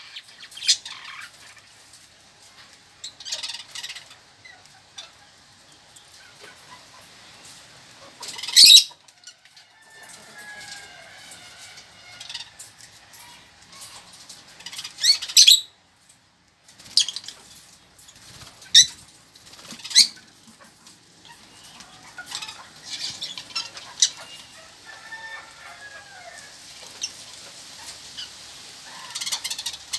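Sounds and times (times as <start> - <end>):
birds chattering and warbling: 0.0 - 29.9.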